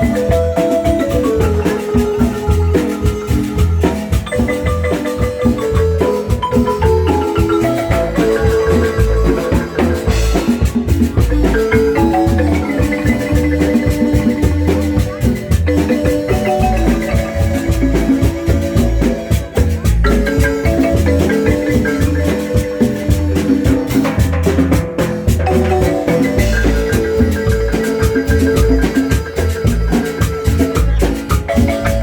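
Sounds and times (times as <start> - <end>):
marimba melody: 0.0 - 32.0.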